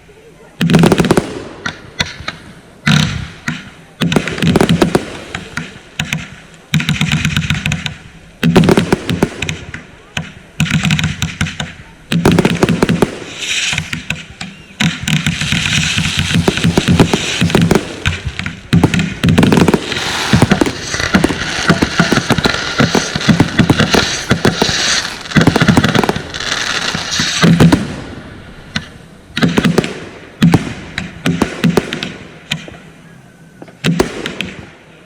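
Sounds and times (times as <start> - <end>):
fireworks bangs: 0.6 - 33.0, 33.6 - 35.0
fireworks crackle: 0.6 - 33.0.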